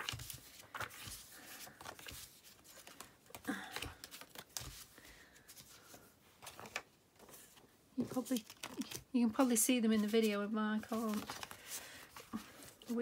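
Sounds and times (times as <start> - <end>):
paper rustling and sliding: 0.0 - 13.0.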